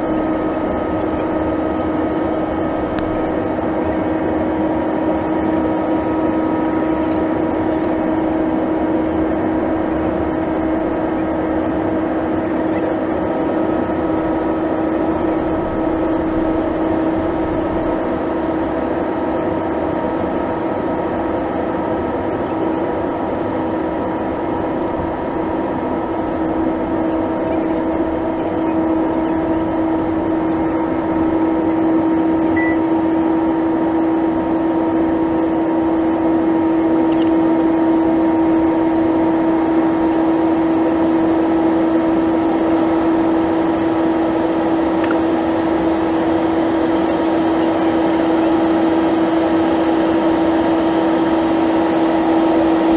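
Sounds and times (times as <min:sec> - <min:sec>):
jet engine cabin hum: 0:00.0 - 0:52.9.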